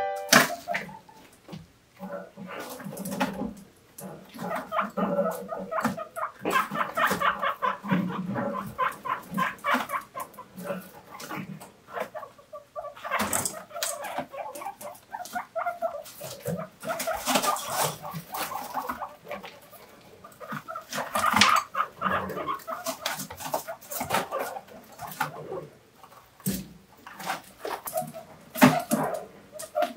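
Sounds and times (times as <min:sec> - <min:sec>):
guinea pigs wheeking: 0:00.0 - 0:29.9.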